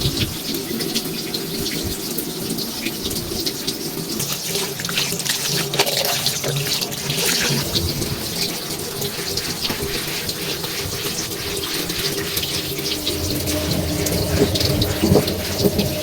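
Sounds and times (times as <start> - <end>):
tap water running and splashing: 0.0 - 16.0.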